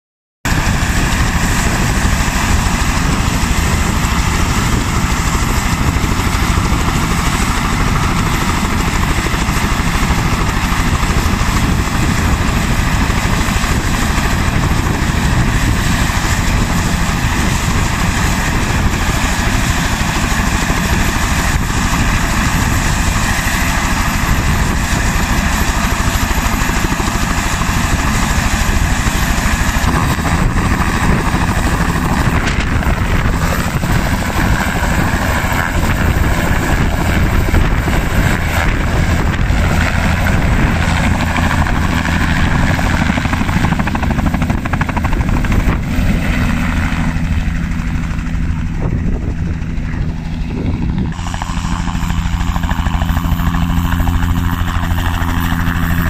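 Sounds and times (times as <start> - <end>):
helicopter rotor beat: 0.4 - 56.0
helicopter turbine whine: 0.5 - 56.0.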